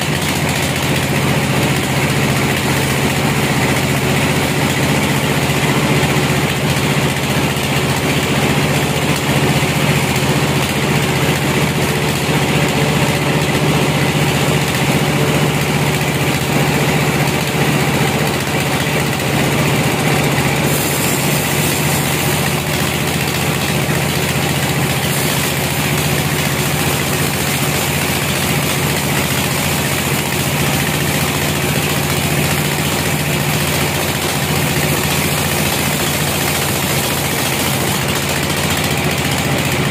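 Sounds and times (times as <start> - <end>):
band saw sawing log: 0.0 - 39.9.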